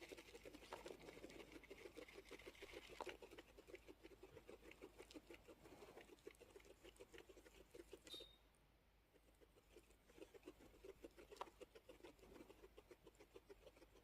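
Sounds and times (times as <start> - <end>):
guinea pigs rhythmic pattering: 0.0 - 14.0.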